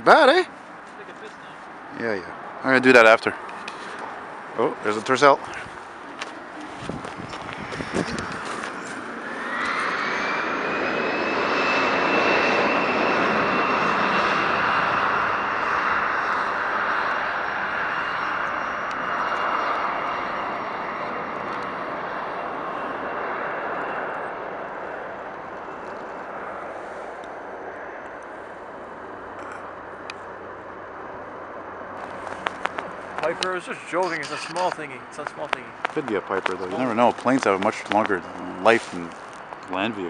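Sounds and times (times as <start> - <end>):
airliner engines passing: 0.0 - 40.0
high engine whine: 0.0 - 40.0.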